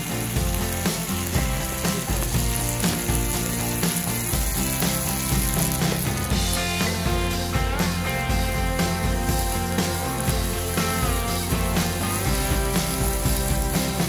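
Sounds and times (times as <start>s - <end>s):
background music with steady beat: 0.0s - 14.0s
meat sizzling in a pan: 0.0s - 14.0s.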